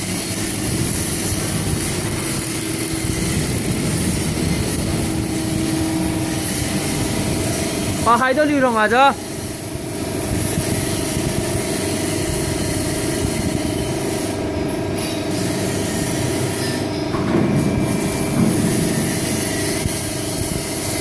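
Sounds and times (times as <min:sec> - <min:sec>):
hydraulic pump humming: 0:00.0 - 0:21.0.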